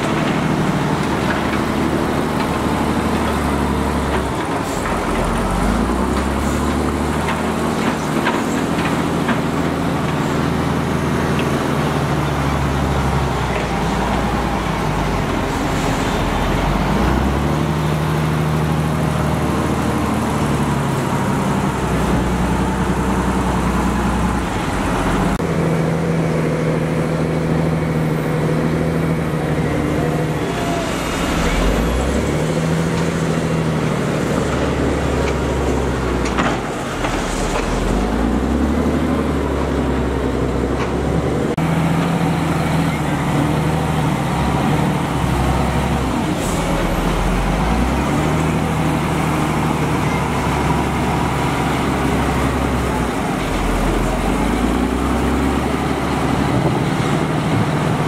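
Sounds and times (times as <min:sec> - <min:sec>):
heavy diesel machinery working: 0:00.0 - 0:58.0.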